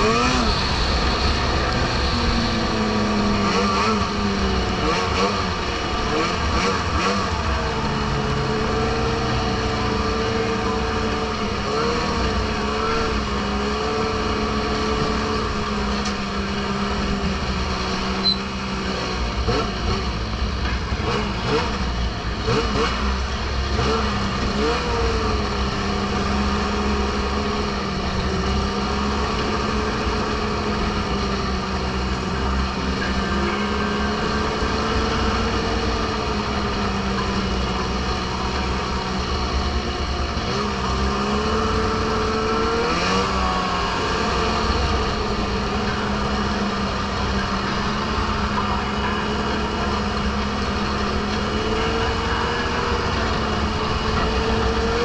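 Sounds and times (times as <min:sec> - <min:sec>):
snowmobile engine running: 0:00.0 - 0:55.0.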